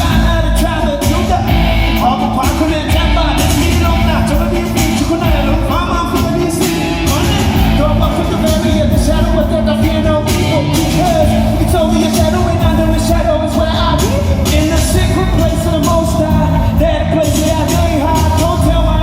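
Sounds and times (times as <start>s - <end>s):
gospel band playing: 0.0s - 19.0s
person singing: 0.0s - 19.0s.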